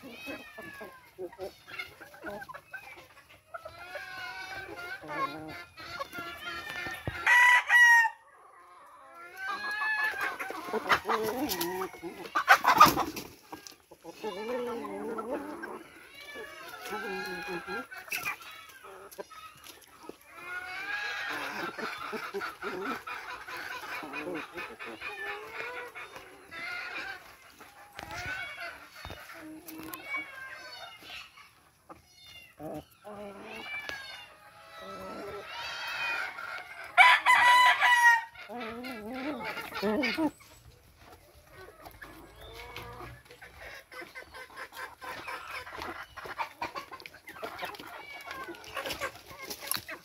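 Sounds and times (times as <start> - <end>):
chickens clucking and calling: 0.0 - 50.0.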